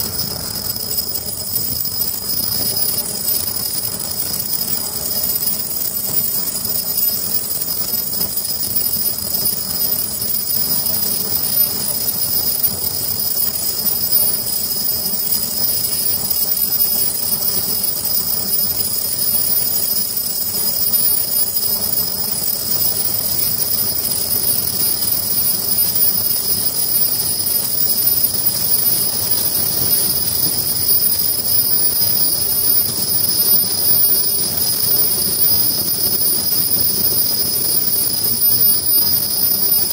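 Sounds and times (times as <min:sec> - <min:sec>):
high-pitched machine whines: 0:00.0 - 0:39.9
machine running: 0:00.0 - 0:39.9.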